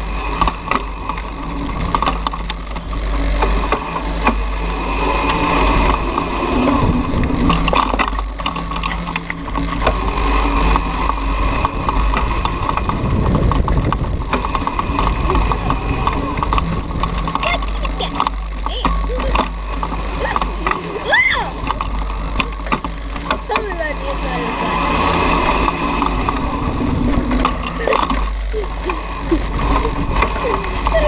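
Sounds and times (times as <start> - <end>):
electric motor whining: 0.0 - 31.0
low rumble: 0.0 - 31.0.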